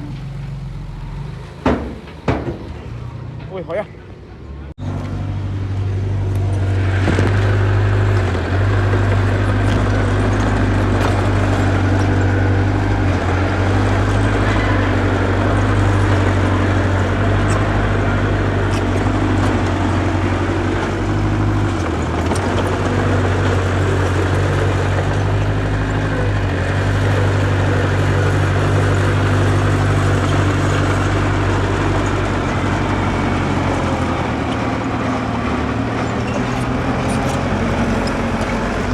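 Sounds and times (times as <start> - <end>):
heavy machinery diesel engine drone: 0.0 - 38.9.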